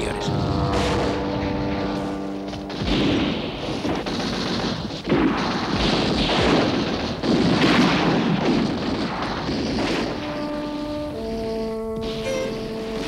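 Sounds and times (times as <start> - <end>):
artillery bursts: 0.0 - 13.0
gunfire rattle: 0.8 - 13.0.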